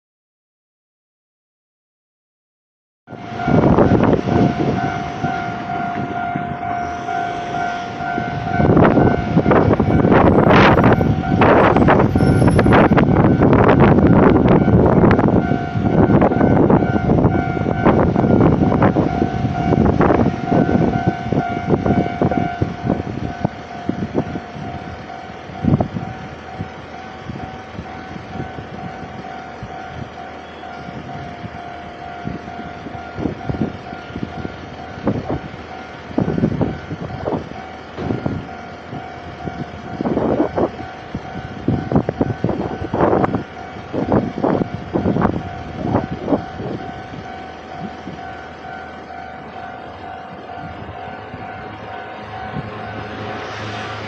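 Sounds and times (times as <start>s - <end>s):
level crossing alarm tone: 3.1s - 54.0s.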